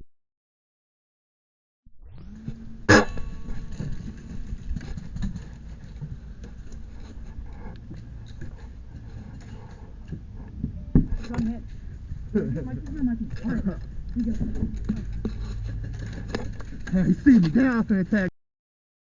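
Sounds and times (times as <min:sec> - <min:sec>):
rustling handling rumble: 0:02.3 - 0:18.2.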